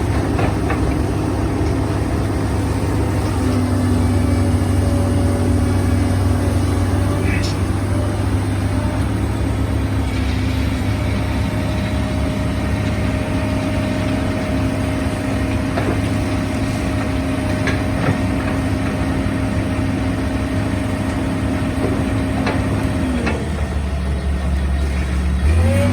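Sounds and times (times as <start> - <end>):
heavy machinery diesel engine drone: 0.0 - 25.9.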